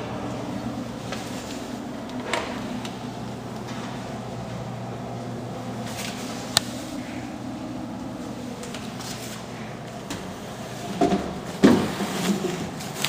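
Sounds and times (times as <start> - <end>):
ventilation hum: 0.0 - 13.0.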